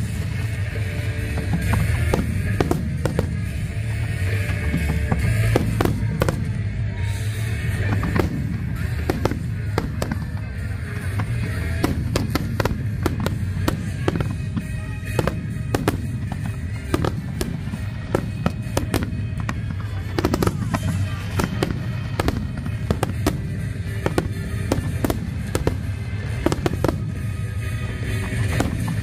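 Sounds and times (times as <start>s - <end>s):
fireworks cracks and bangs: 0.0s - 29.0s
low fireworks rumble: 0.0s - 29.0s.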